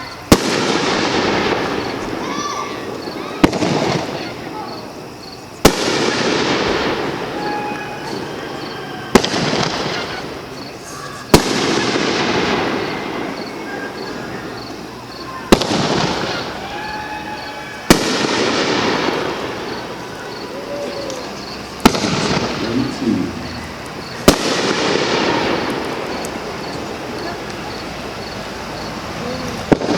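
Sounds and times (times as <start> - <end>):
fireworks crackle and echo: 0.0 - 16.7, 17.6 - 29.9
fireworks bangs: 0.2 - 28.4, 29.4 - 29.9.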